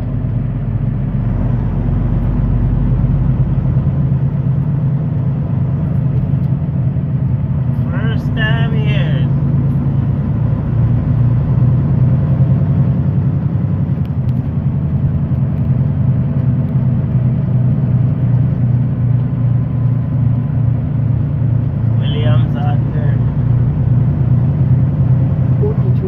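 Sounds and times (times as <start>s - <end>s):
truck diesel engine humming: 0.0s - 26.0s.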